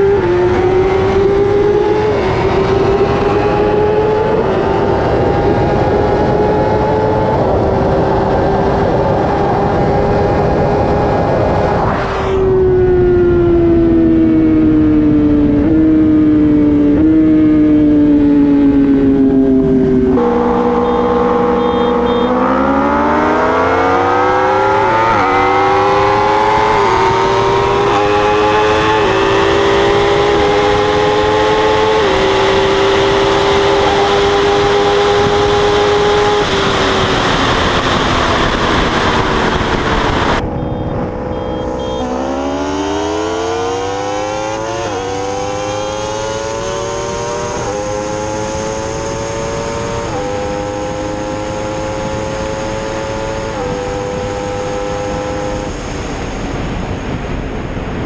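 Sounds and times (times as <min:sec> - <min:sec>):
motorcycle engine accelerating: 0:00.0 - 0:58.0
rushing wind: 0:00.0 - 0:58.0.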